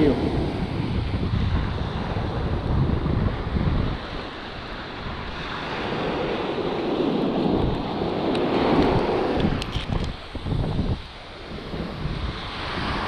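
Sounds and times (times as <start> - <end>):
surf washing onto sandy beach: 0.0 - 13.0
wind buffeting microphone: 0.0 - 13.0.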